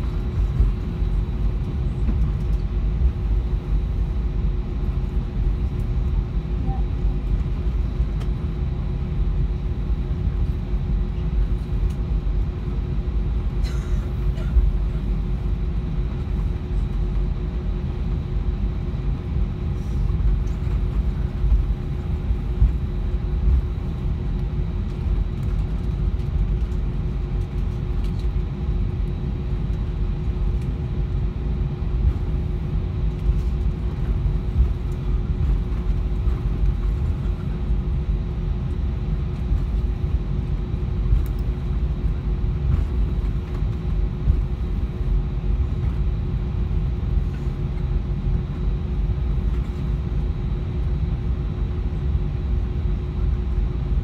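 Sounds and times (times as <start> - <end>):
aircraft engines idling: 0.0 - 54.0
faint steady hum: 0.0 - 54.0.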